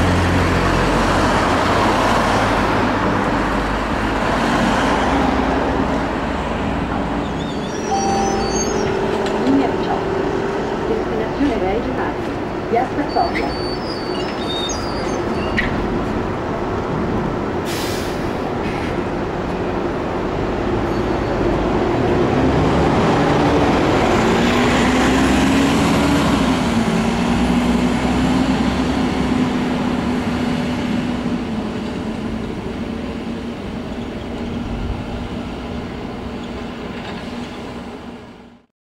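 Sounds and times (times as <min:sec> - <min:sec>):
bus engine hum and road noise: 0:00.0 - 0:38.7.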